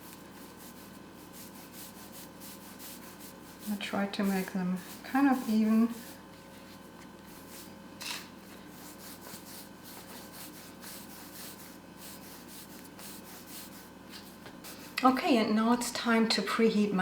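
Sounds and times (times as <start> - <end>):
louder brush on dough: 0.0 - 7.8, 8.4 - 15.0
hands rubbing dough: 0.0 - 15.0.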